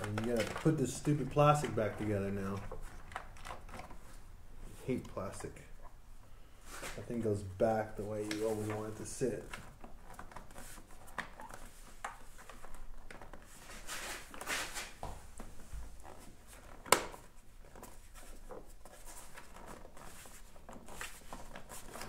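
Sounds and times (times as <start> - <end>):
plastic panels rustling and scraping: 0.0 - 5.9, 6.6 - 22.0.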